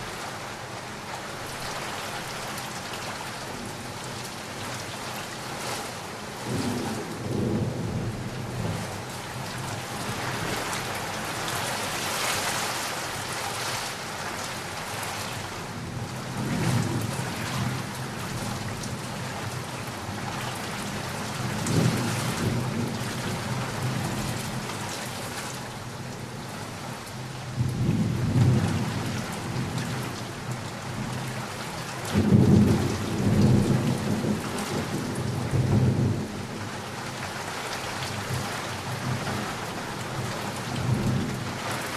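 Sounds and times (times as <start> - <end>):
steady rain hissing: 0.0 - 41.9.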